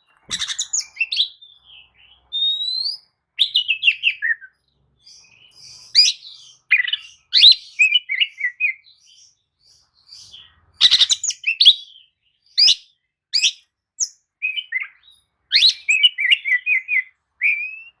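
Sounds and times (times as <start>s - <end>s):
magpie-robin singing: 0.1s - 18.0s.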